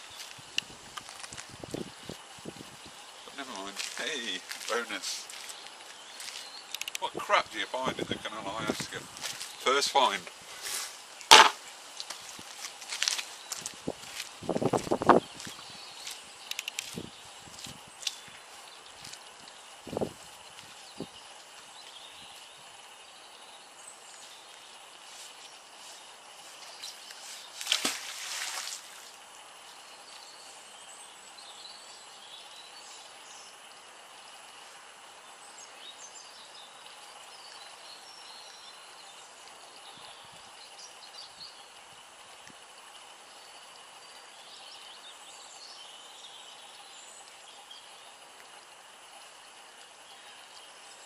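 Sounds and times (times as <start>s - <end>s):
small birds chirping: 0.0s - 10.9s, 12.0s - 42.5s, 43.2s - 51.0s
outdoor background noise: 0.0s - 51.0s.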